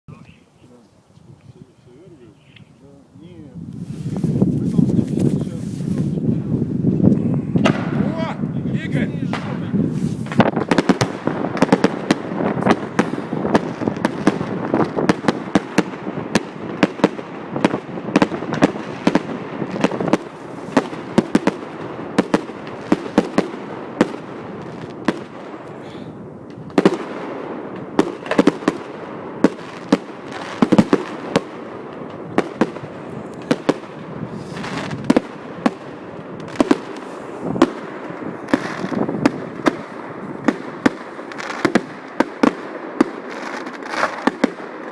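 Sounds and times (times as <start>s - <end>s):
fireworks bangs and pops: 3.7s - 44.9s.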